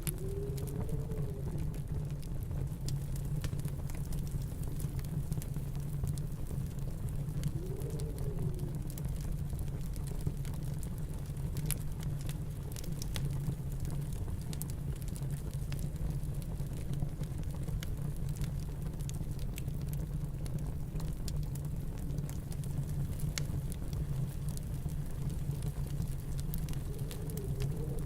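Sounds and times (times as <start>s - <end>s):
low rumble of storm wind: 0.0s - 28.0s
wood fire crackling: 0.0s - 28.0s.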